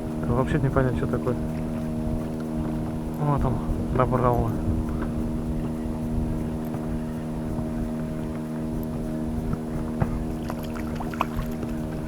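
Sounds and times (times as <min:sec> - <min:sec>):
two-stroke outboard motor running: 0:00.0 - 0:12.0.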